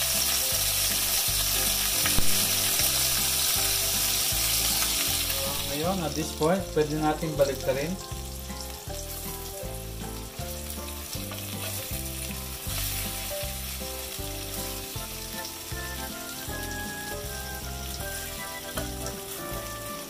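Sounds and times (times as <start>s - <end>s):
background music: 0.0s - 20.0s
chicken sizzling in hot oil: 0.0s - 20.0s.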